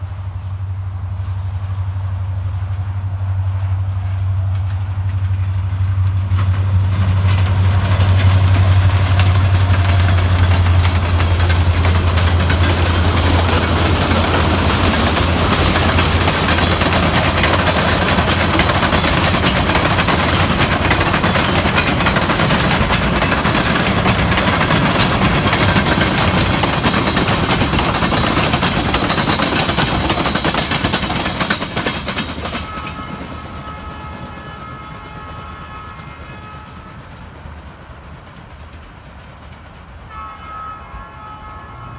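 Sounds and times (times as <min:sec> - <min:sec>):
freight cars rumbling and clattering: 0:00.0 - 0:35.7
diesel locomotive engine drone: 0:00.0 - 0:41.9.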